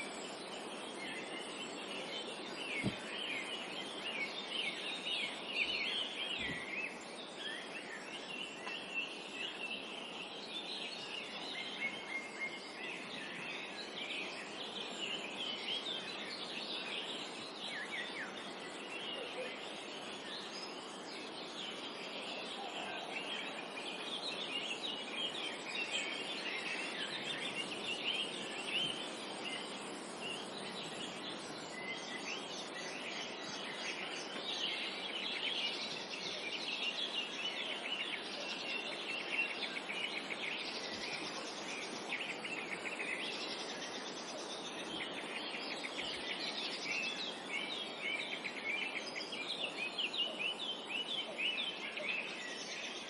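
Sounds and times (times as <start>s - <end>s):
forest ambience hiss: 0.0s - 53.0s
songbirds chirping and trilling: 0.0s - 53.0s.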